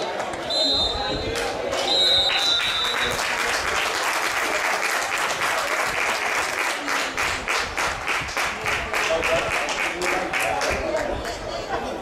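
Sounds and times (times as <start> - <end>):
spectators clapping: 1.3 - 11.6.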